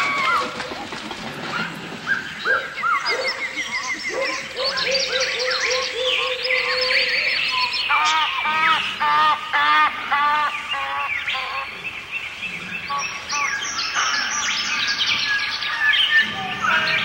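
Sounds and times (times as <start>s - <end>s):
many birds chirping and trilling: 0.0s - 17.0s.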